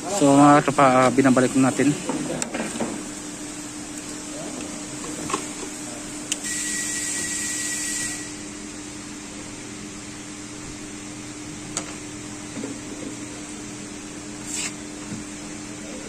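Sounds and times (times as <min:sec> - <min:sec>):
steady machine hum: 0:00.0 - 0:16.0
thin steady whine: 0:00.0 - 0:16.0.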